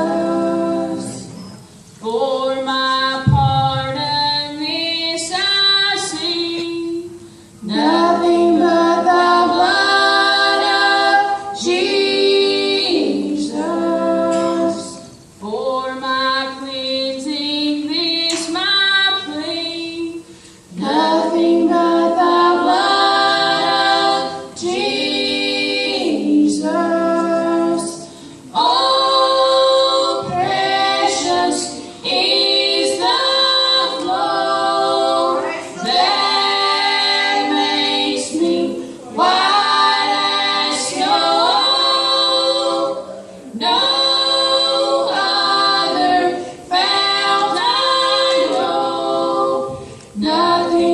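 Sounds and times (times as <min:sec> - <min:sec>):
women singing in harmony: 0:00.0 - 0:50.9.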